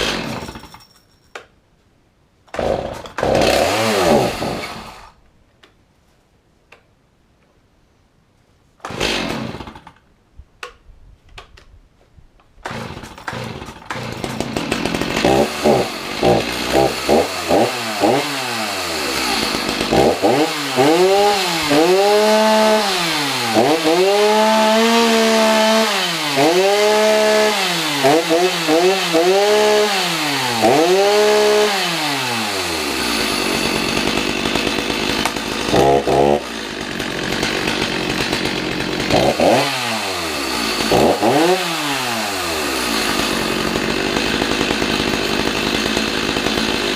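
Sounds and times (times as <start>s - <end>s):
chainsaw engine revving: 0.0s - 0.7s, 2.5s - 5.2s, 8.8s - 9.9s, 12.6s - 46.9s.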